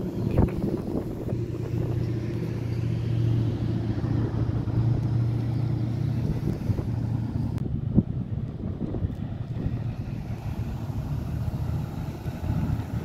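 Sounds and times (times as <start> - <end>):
car engine cruising: 0.0 - 13.0.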